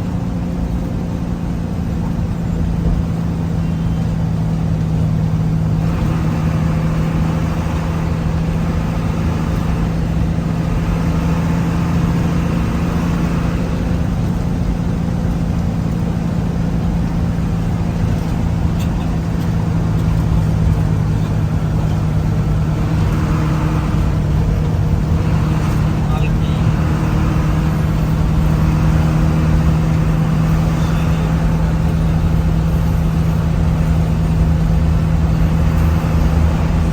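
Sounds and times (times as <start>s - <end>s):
vehicle engine and road noise: 0.0s - 36.9s.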